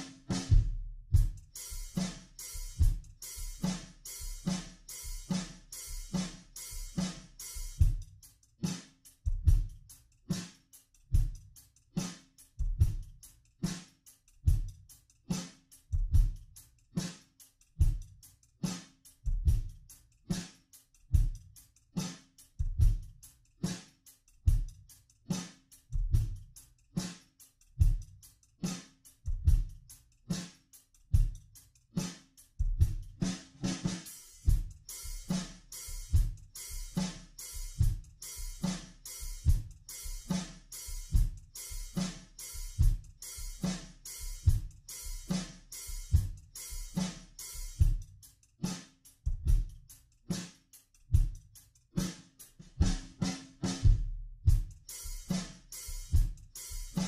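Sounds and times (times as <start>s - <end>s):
drum kit beat: 0.0s - 57.0s.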